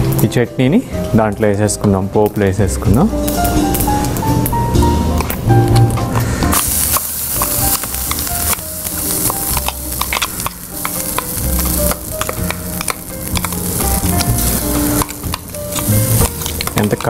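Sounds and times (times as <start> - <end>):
oil sizzling: 3.2 - 17.0.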